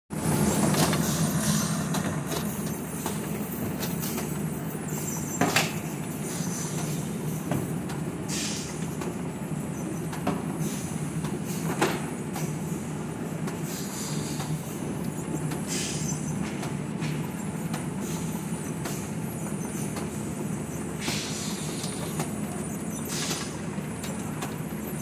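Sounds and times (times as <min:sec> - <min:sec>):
conveyor hum and rattle: 0:00.1 - 0:25.0.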